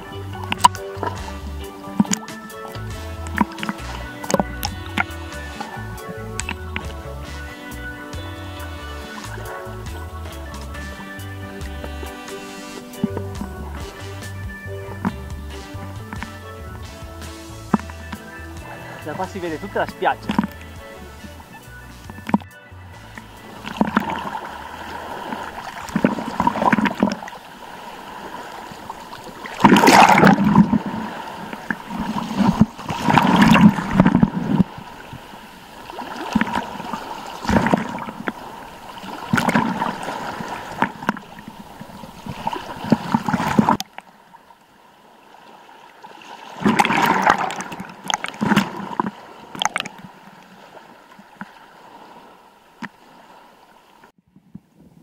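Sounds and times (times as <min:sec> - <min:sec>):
water splashing near microphone: 0:00.0 - 0:54.2
waves sloshing over rocks: 0:00.0 - 0:54.2.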